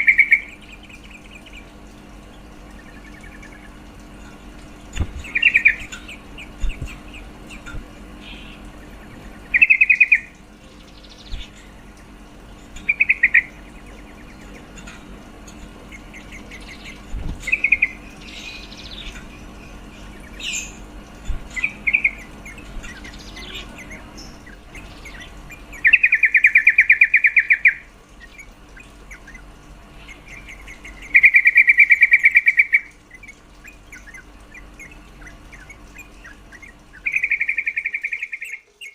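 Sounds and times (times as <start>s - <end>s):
bulbul chattering trills: 0.0s - 38.9s.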